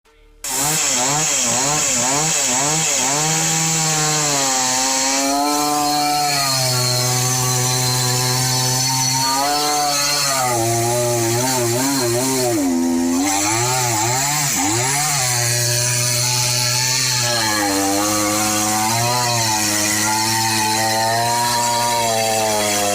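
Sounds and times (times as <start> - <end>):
chainsaw cutting wood: 0.4 - 22.9.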